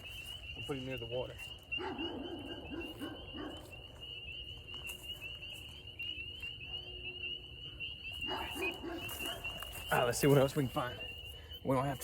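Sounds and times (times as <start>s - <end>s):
spring peepers chorus: 0.0s - 12.0s.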